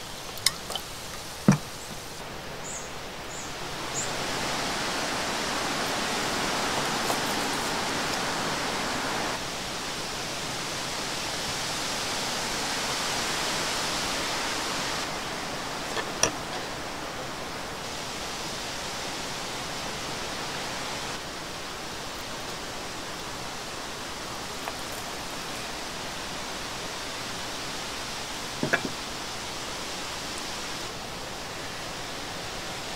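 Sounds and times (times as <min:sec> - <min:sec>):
rushing outdoor noise: 0:00.0 - 0:32.9.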